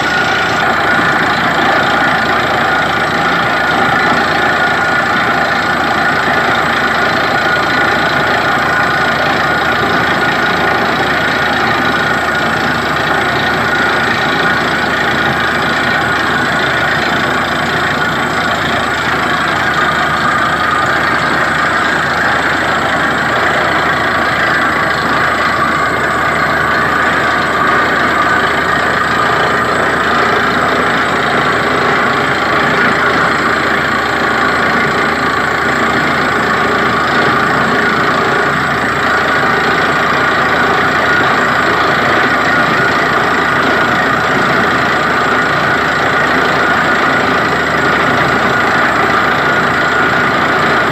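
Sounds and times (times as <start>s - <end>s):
drilling rig engine running: 0.0s - 50.9s.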